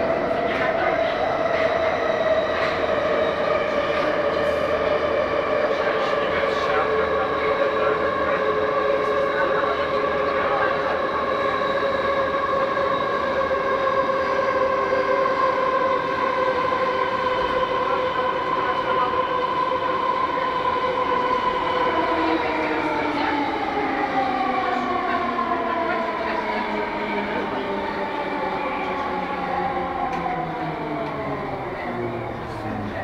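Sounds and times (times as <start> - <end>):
metro train motor whine: 0.0 - 33.0.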